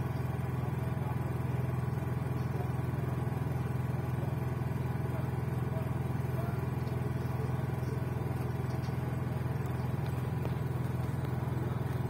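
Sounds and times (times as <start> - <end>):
low pulsing mechanical hum: 0.0 - 12.0.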